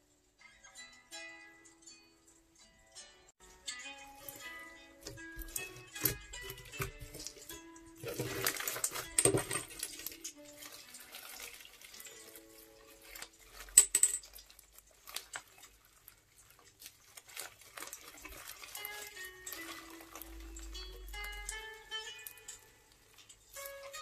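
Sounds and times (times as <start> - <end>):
slime squelching and popping: 4.2 - 24.0.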